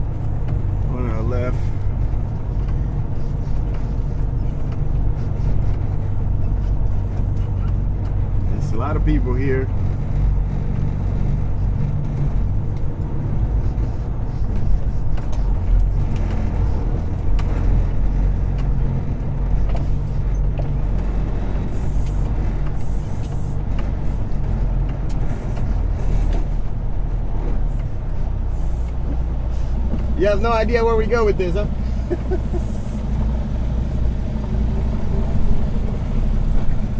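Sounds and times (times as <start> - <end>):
truck diesel engine rumbling: 0.0 - 36.9.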